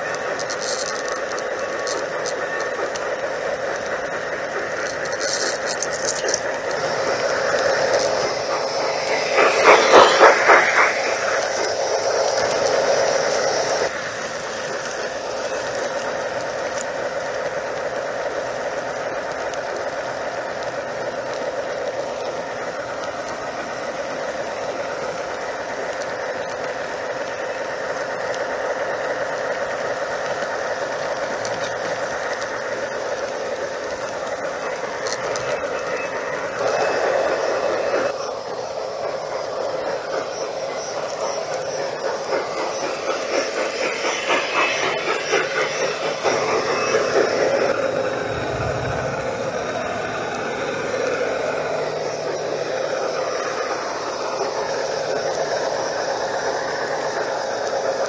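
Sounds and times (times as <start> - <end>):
model train whirring and rattling: 0.0 - 58.0
wheels clicking over track: 0.0 - 58.0.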